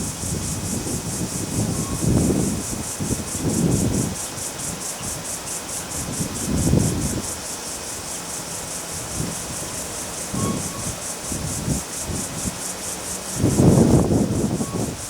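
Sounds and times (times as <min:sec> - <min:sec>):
insects chirping: 0:00.0 - 0:15.0
wind buffeting microphone: 0:00.0 - 0:15.0.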